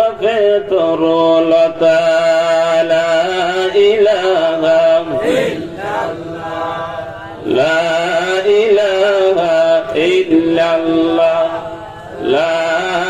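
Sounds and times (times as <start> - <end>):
man chanting devotional melody: 0.0 - 13.0.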